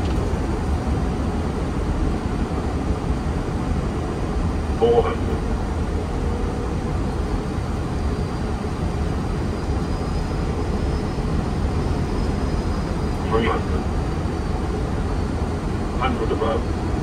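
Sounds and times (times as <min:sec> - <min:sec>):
jet noise with deep rumble: 0:00.0 - 0:17.0
faint high whine: 0:01.3 - 0:17.0.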